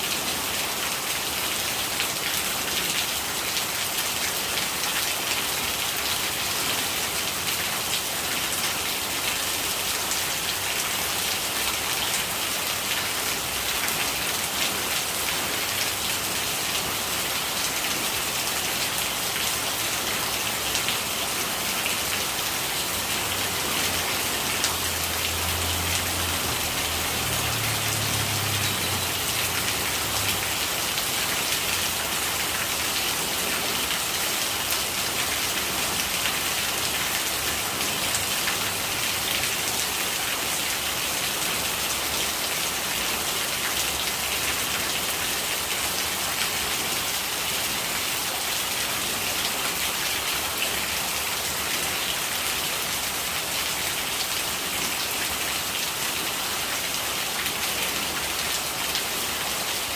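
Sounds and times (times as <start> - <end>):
rainwater gurgling: 0.0 - 59.9
steady rain falling: 0.0 - 59.9.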